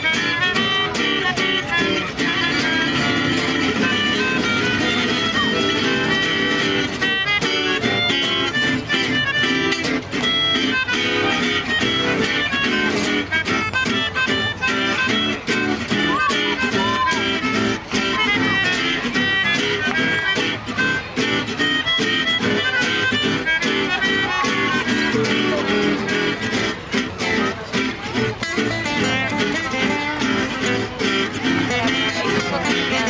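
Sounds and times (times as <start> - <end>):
gypsy jazz ensemble playing: 0.0 - 33.0
rhythm guitar chords: 0.0 - 33.0.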